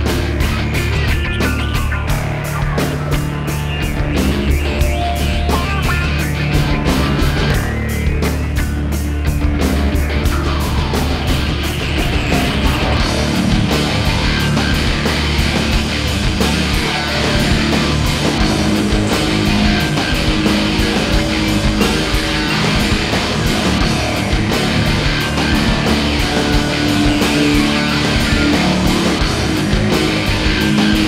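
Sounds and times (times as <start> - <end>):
distorted electric guitar: 0.0 - 31.0
steady drum beat: 0.0 - 31.0.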